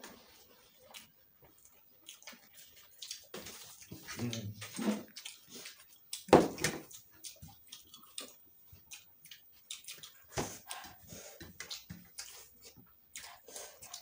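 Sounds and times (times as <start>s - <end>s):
wet chewing and lip-smacking: 0.3s - 14.0s.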